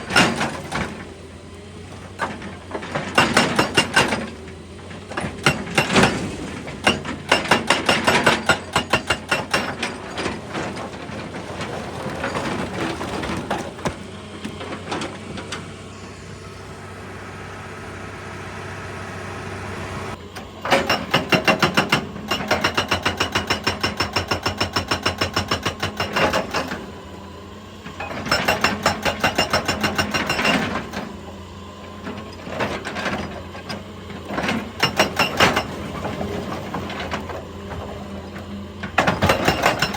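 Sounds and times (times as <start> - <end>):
hydraulic breaker hammering rock: 0.0 - 1.1, 2.0 - 15.8, 20.1 - 27.2, 27.9 - 31.4, 32.0 - 39.9
excavator engine running: 0.0 - 39.9.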